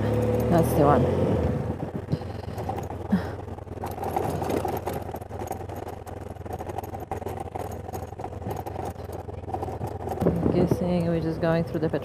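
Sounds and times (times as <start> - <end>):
motorcycle engine running: 0.0 - 12.0
tyres clicking on gravel: 2.1 - 12.0.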